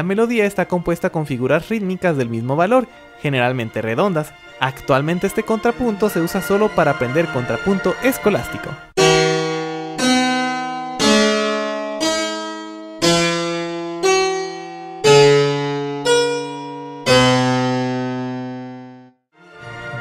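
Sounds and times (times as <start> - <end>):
keyboard chords ringing: 0.0 - 20.0.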